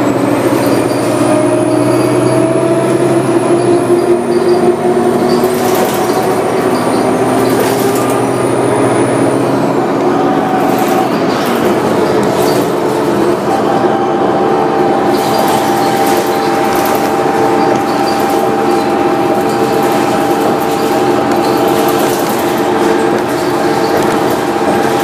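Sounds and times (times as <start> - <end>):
bus engine whining: 0.0 - 25.0
road noise: 0.0 - 25.0.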